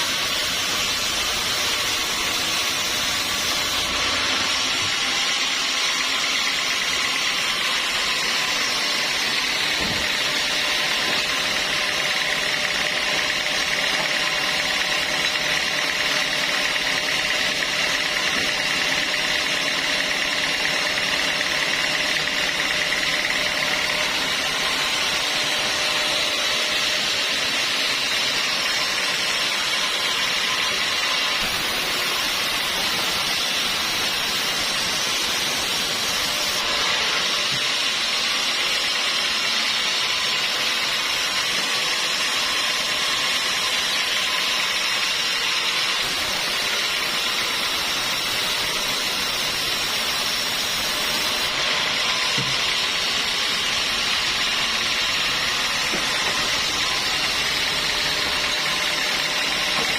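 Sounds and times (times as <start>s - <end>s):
sawmill saw running: 0.0s - 59.9s.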